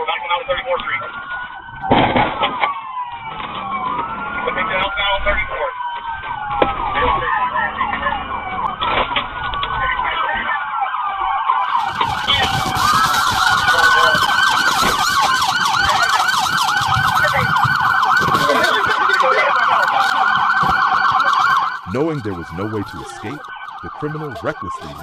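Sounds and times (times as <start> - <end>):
police sirens wailing: 0.0 - 25.0
siren yelp: 0.0 - 25.0.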